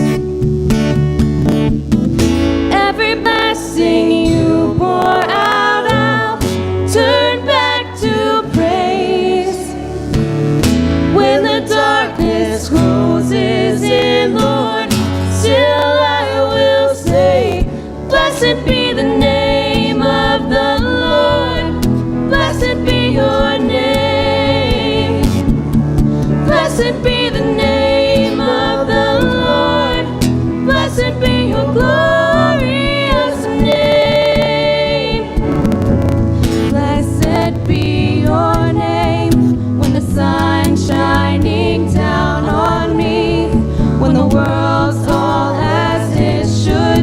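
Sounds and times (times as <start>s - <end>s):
steady bass line: 0.0s - 47.0s
strummed acoustic guitar: 0.0s - 47.0s
voices singing: 2.7s - 10.3s, 10.9s - 25.6s, 26.3s - 35.6s, 36.6s - 47.0s.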